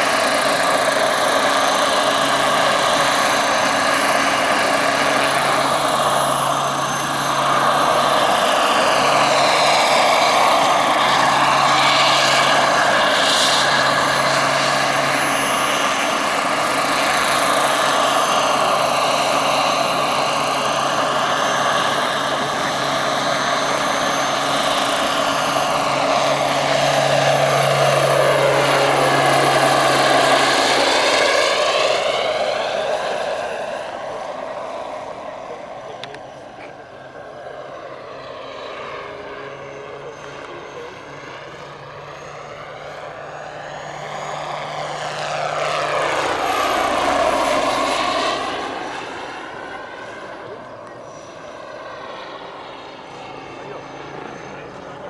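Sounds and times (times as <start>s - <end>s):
helicopter rotor noise: 0.0s - 55.0s
turbine whine: 0.0s - 55.0s.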